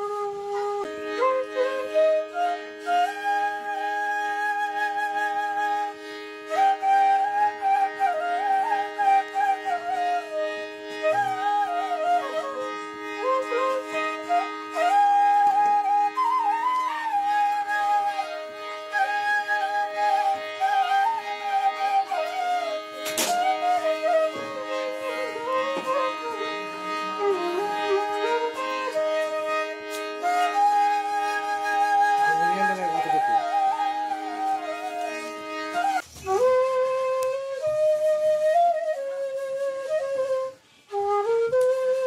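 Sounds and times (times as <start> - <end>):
bamboo flute melody: 0.0 - 42.0.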